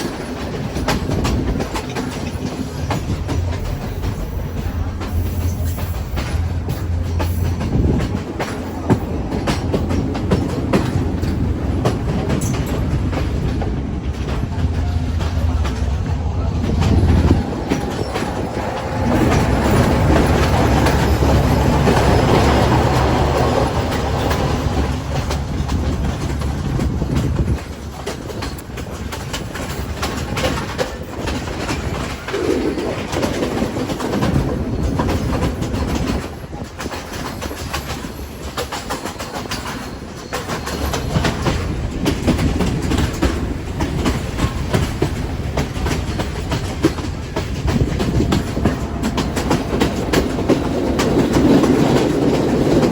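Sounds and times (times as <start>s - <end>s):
train rumbling on rails: 0.0s - 52.9s
wheels clattering over track: 0.0s - 52.9s.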